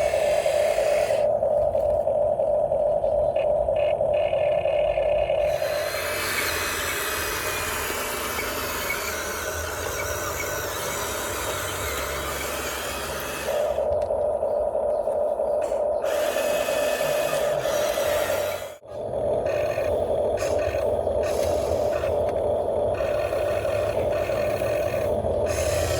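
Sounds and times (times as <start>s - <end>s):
electric motors whining: 0.0s - 25.9s.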